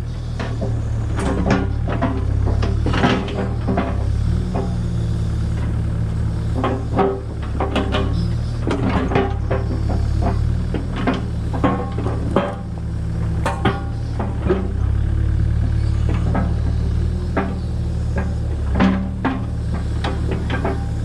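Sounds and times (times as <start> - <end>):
excavator diesel engine running: 0.0 - 21.0
boulders clanking against steel bucket: 0.3 - 21.0.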